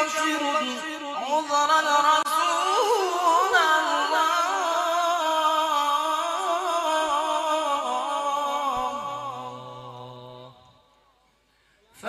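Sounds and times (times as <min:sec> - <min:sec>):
man singing through a loudspeaker: 0:00.0 - 0:10.9.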